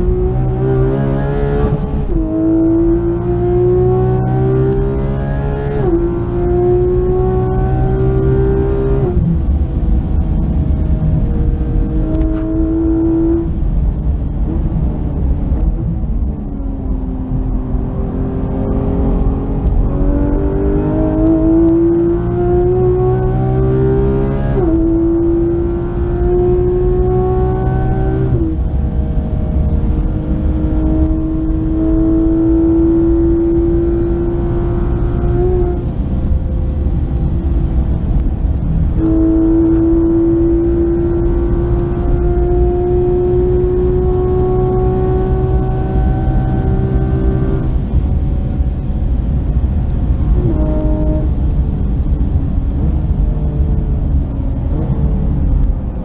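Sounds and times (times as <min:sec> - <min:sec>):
road and tyre rumble: 0:00.0 - 0:56.0
sports car engine accelerating: 0:00.0 - 0:56.0.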